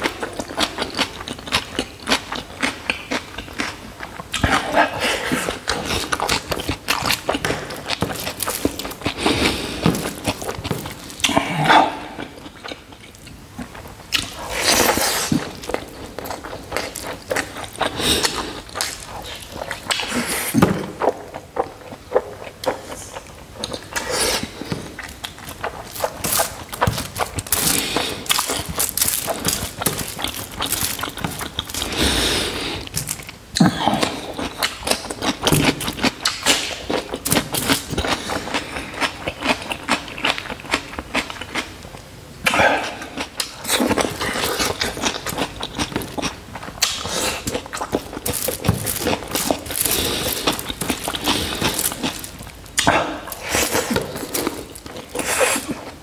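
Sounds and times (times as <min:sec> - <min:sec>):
man chewing noodles: 0:00.0 - 0:56.0.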